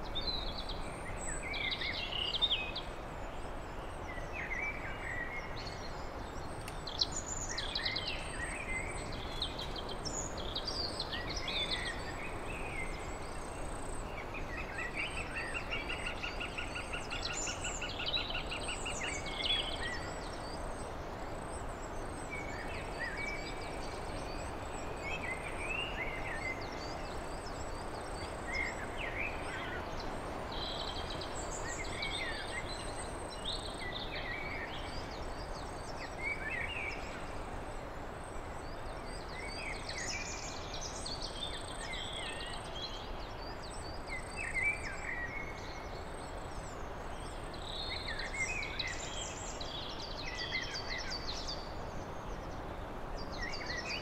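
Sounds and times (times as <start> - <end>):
songbirds singing: 0.0 - 54.0
steady background hiss: 0.0 - 54.0.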